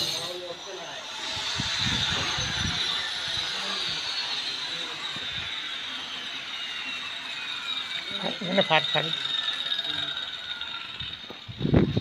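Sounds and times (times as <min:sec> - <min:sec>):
measuring tape ratcheting whir: 0:00.0 - 0:12.0.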